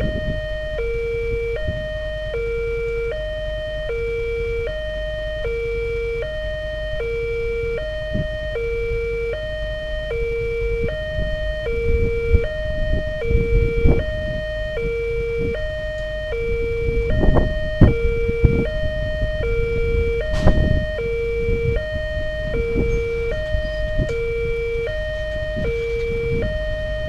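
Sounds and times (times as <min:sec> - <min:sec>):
two-tone level-crossing alarm: 0:00.0 - 0:27.0.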